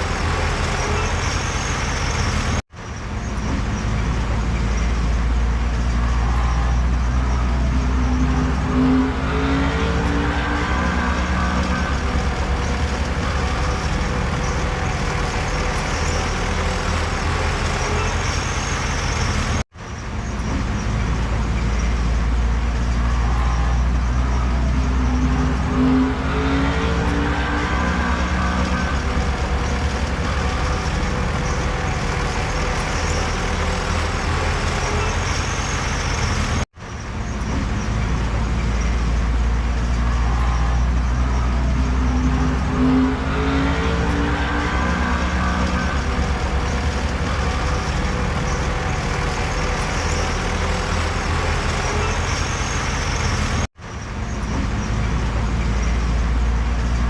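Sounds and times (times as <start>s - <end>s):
heavy diesel engine rumbling: 0.0s - 57.0s.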